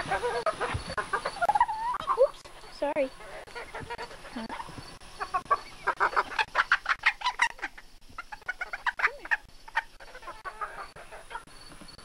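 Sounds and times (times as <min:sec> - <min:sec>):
poultry clucking: 0:00.0 - 0:12.0.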